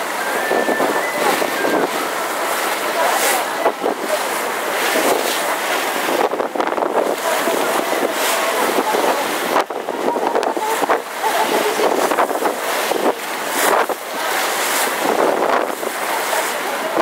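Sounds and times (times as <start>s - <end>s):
wind on microphone: 0.0s - 16.3s
water splashing along hull: 0.0s - 17.0s.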